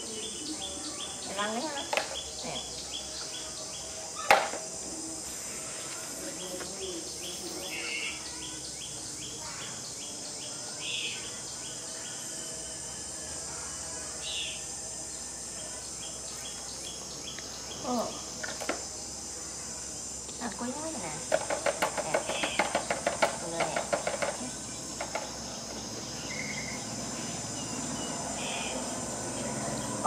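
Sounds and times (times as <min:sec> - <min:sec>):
insect chorus chirping: 0:00.0 - 0:30.0.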